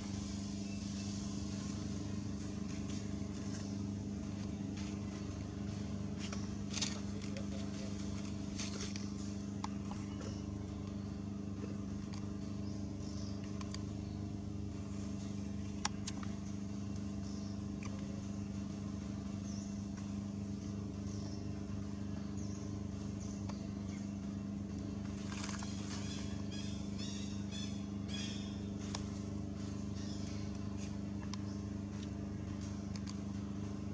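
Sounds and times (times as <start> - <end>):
low motor hum: 0.0 - 33.9.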